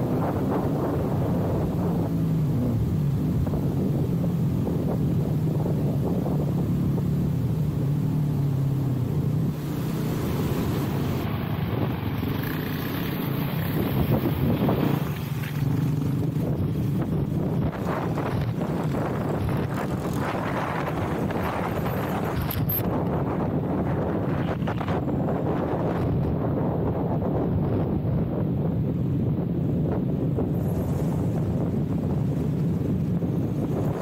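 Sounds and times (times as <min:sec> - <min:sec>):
wind noise on microphone: 0:00.0 - 0:34.0.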